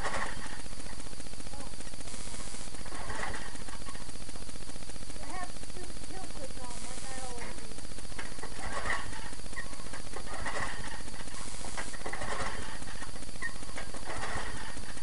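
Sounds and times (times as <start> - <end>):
snowblower engine running: 0.0 - 15.0.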